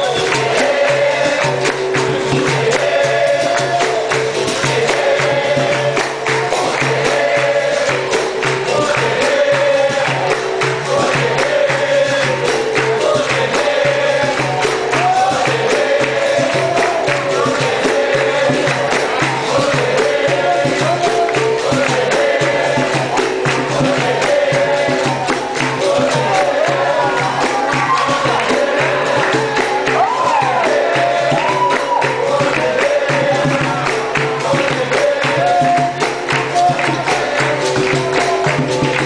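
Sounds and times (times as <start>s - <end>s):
group singing in chorus: 0.0s - 39.0s
hand clapping: 0.0s - 39.0s
percussion beat: 0.0s - 39.0s.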